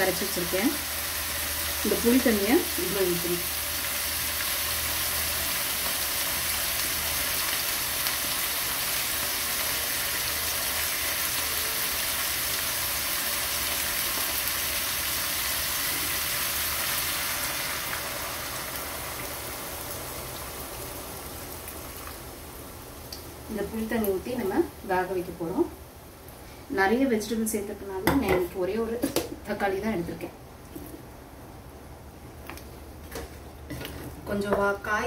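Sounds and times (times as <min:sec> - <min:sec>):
vegetables sizzling in oil: 0:00.0 - 0:31.8.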